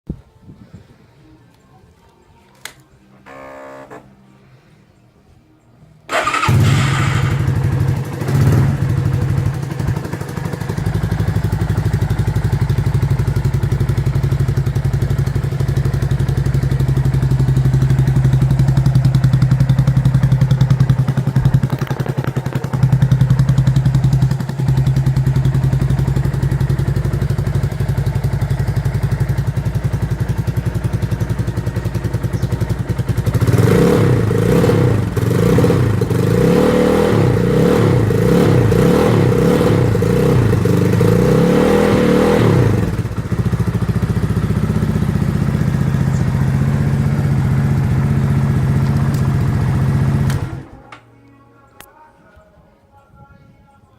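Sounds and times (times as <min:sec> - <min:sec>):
motorcycle engine idling and revving: 0:02.6 - 0:04.1, 0:06.1 - 0:50.9.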